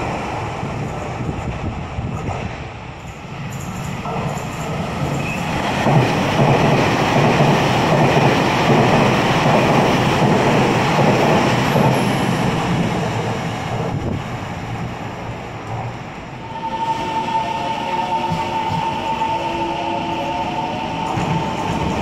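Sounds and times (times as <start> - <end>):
train passing: 0.0 - 22.0
train wheel noise: 0.0 - 22.0.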